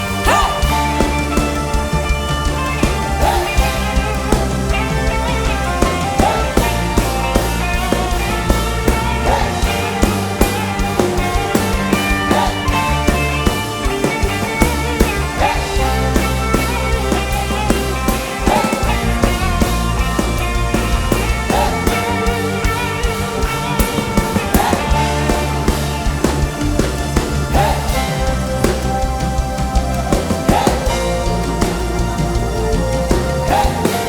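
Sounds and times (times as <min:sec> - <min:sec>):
drum beat: 0:00.0 - 0:34.0
instrumental band music: 0:00.0 - 0:34.0.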